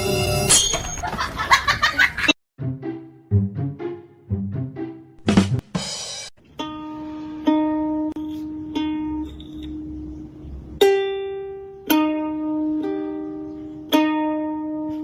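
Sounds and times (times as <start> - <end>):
plucked string instrument melody: 2.6 - 15.0.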